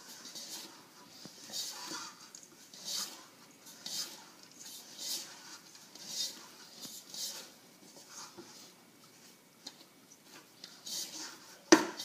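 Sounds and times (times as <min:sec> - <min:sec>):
hands kneading dough in bowl: 0:00.0 - 0:12.0.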